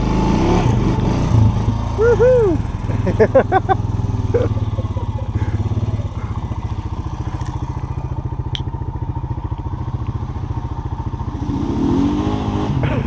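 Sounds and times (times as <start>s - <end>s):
motorbike engine running: 0.0s - 13.0s.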